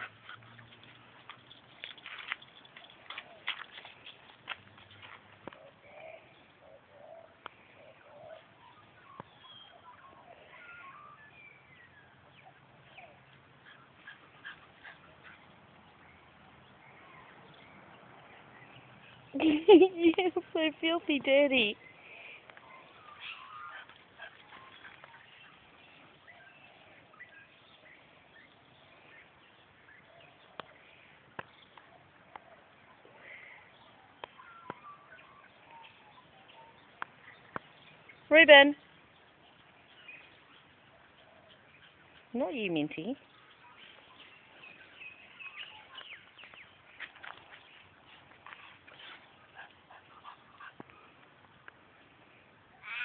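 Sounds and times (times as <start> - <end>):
birds calling and whistling: 4.8 - 20.4, 21.5 - 52.1.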